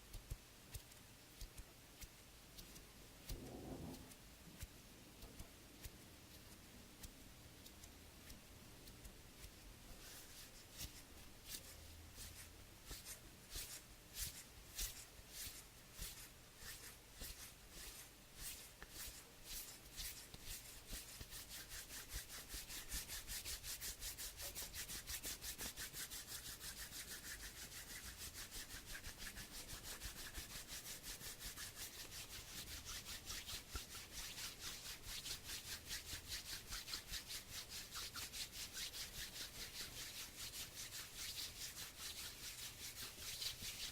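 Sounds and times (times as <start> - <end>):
hands rubbing together: 5.4 - 43.9.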